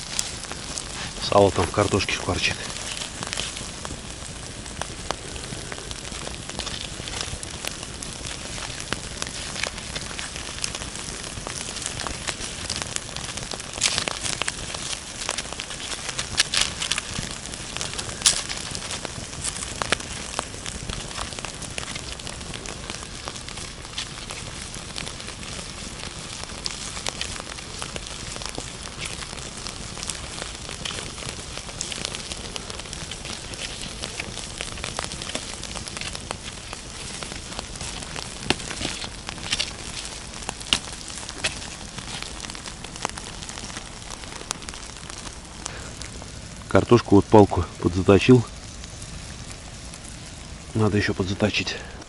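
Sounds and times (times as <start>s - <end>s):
campfire crackling and popping: 0.0s - 52.0s
fat sizzling: 0.0s - 52.0s.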